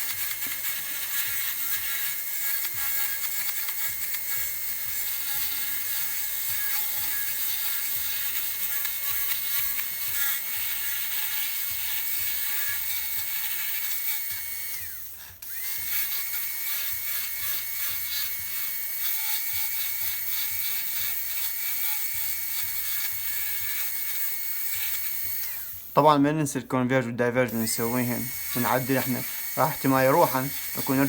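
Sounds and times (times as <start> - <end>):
dental drill whining: 0.0 - 26.5, 27.4 - 31.0
faint background music: 0.0 - 31.0.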